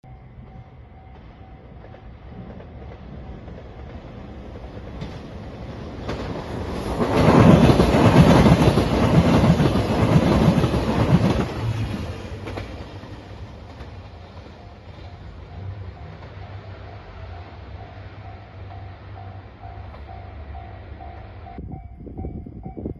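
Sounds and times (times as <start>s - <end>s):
train wheel rumble and clatter: 0.2s - 22.9s.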